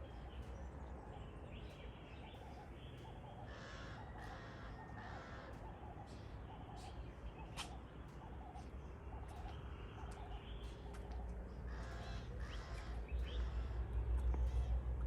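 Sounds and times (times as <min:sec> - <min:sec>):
harsh bird calls: 0:01.3 - 0:14.8.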